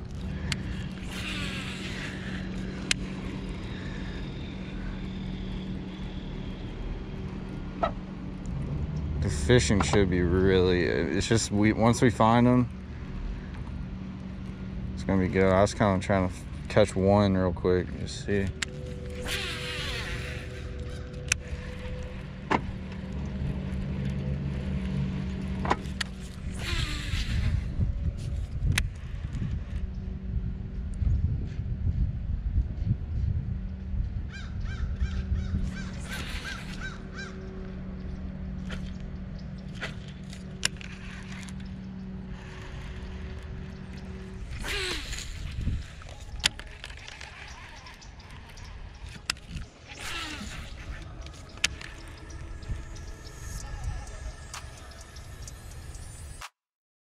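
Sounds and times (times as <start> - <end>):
fishing reel whirring: 0.0 - 31.0, 34.4 - 56.5
low motor hum: 0.0 - 56.6.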